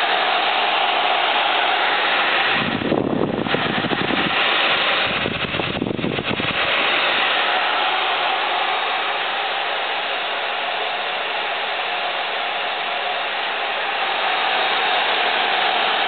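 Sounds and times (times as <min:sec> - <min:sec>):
graphics card blower fan: 0:00.0 - 0:16.0.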